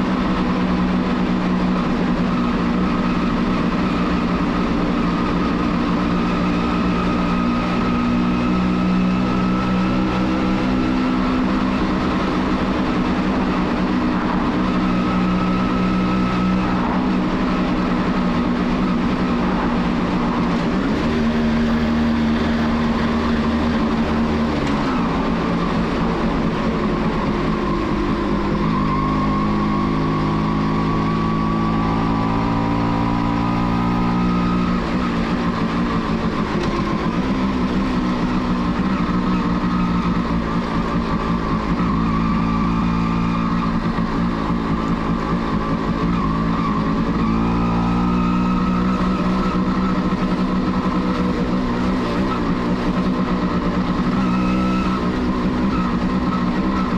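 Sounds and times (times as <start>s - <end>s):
motorcycle engine revving: 0.0s - 56.9s
road and wind noise: 0.0s - 56.9s.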